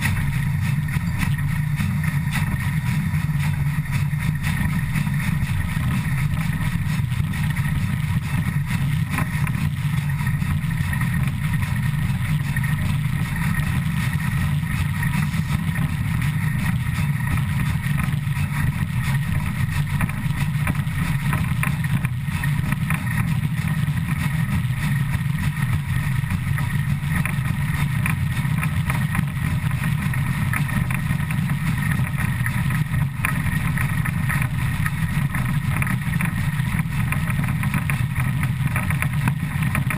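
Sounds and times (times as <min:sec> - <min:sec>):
steam locomotive running gear rumble: 0:00.0 - 0:39.9.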